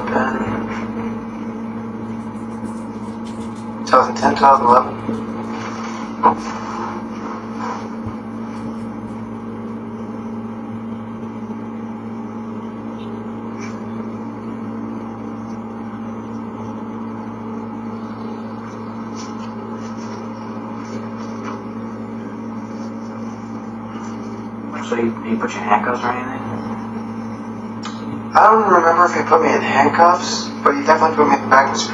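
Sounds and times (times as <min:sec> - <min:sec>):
low hum: 0:00.0 - 0:31.9.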